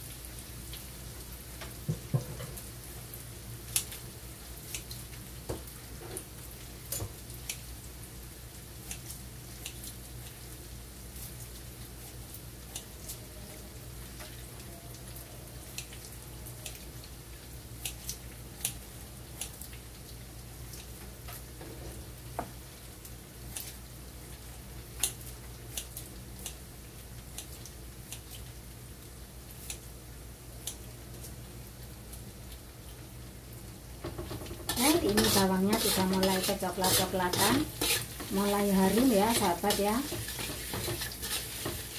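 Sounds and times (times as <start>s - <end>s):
paste frying in oil: 0.0s - 41.9s.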